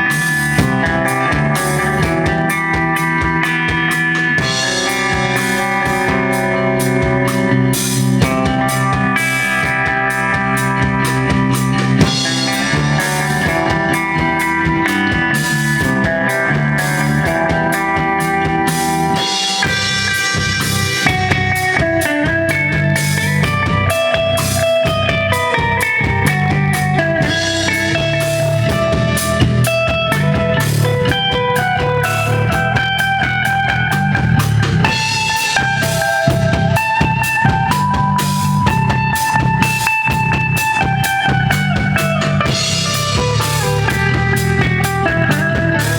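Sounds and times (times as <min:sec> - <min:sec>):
bass guitar: 0:00.0 - 0:45.9
drum kit beat: 0:00.0 - 0:45.9
electric guitar lead: 0:00.0 - 0:45.9.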